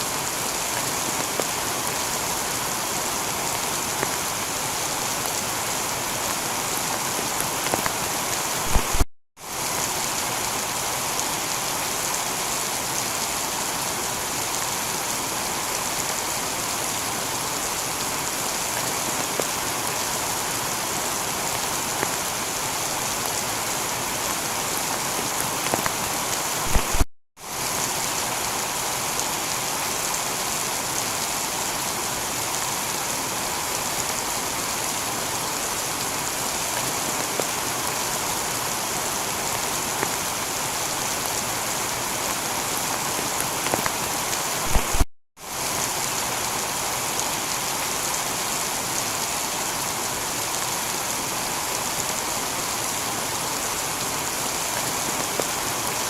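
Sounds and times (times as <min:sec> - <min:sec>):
heavy rain on a tiled roof: 0:00.0 - 0:56.0.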